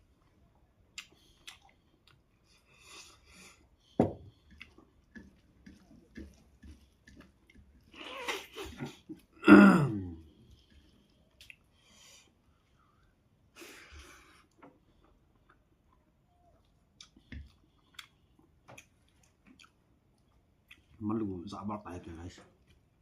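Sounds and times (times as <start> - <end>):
soft chewing clicks: 0.0 - 9.4, 10.2 - 13.2, 14.0 - 21.0.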